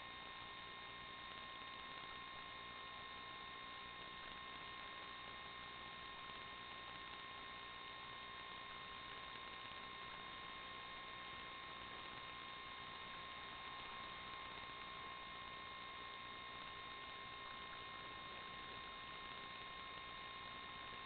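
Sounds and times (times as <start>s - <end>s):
faint electronic hiss: 0.0s - 21.0s
thin whine: 0.0s - 21.0s.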